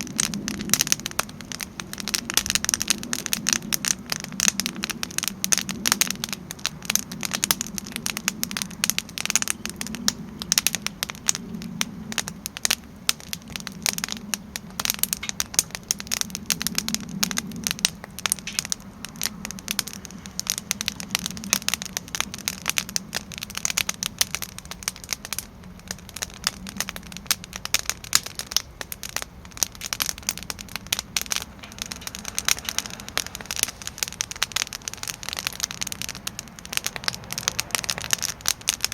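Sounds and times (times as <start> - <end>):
campfire crackling and popping: 0.0 - 38.9
low steady rumble: 0.0 - 38.9.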